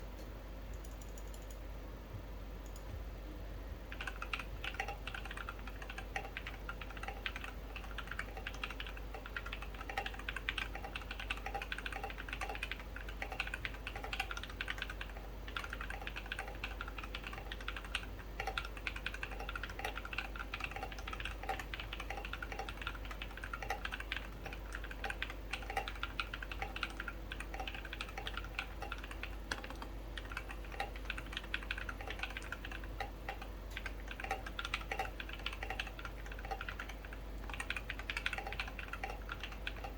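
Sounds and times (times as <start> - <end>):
mechanical keyboard typing clacks: 3.9 - 39.9.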